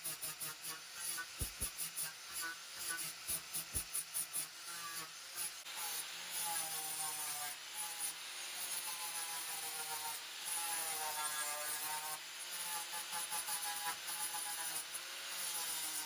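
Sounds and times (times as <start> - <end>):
angle grinder grinding metal: 0.0 - 16.0.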